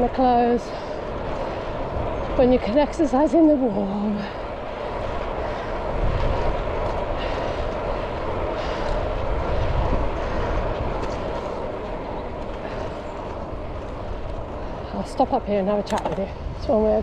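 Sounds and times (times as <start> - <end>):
low rumble of bike tyres: 0.0 - 17.0
wind rushing over microphone: 0.0 - 17.0.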